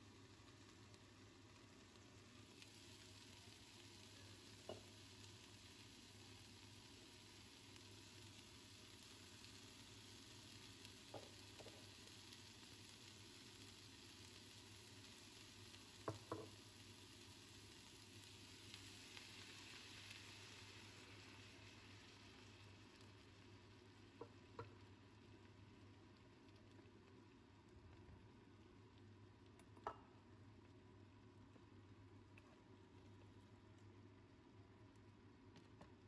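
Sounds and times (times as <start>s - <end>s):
vegetables sizzling in a pan: 0.0s - 31.1s.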